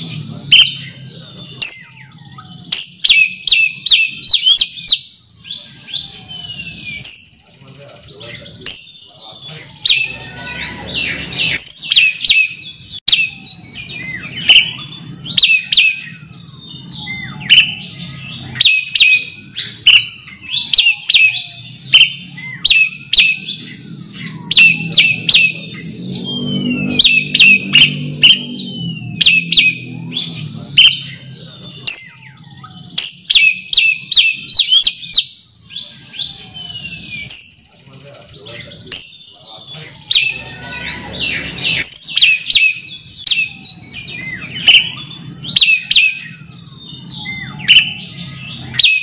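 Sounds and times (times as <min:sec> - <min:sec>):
bird singing whistled notes: 0:00.0 - 0:49.0.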